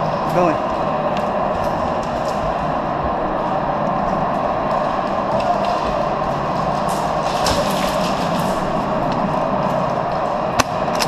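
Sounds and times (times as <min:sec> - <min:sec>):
steady loud background noise: 0:00.0 - 0:11.0.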